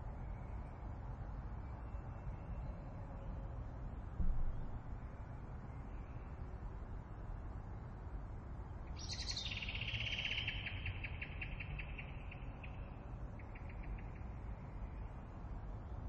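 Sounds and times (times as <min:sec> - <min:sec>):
low rush of wind: 0:00.0 - 0:16.0.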